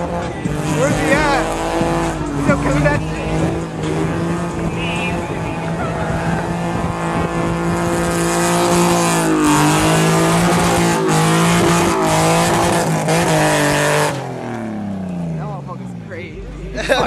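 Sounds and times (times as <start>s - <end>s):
car engine at high revs: 0.0s - 17.0s
tires squealing: 0.0s - 17.0s.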